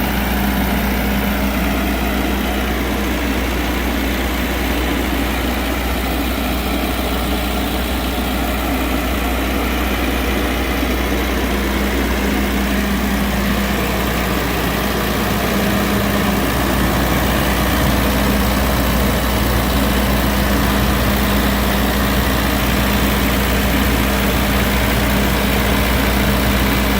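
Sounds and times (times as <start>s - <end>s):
diesel generator running: 0.0s - 26.9s.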